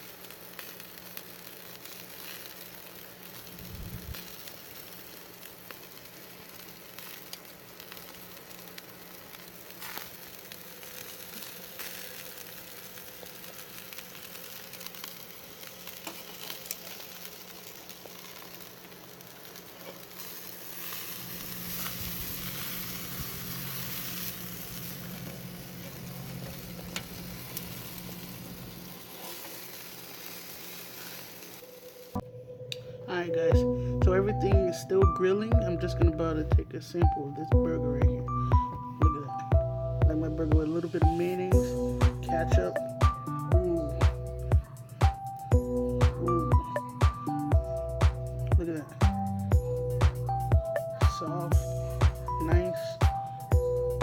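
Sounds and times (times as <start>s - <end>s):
meat sizzling on a grill: 0.0s - 32.2s, 39.5s - 54.0s.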